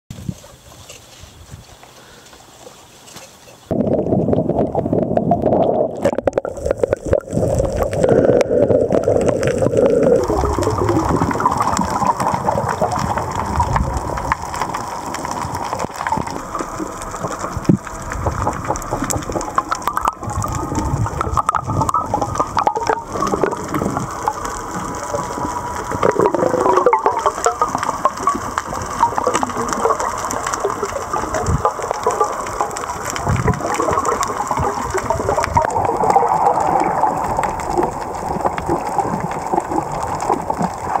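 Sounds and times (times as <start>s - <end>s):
water rushing underwater: 3.7s - 41.0s.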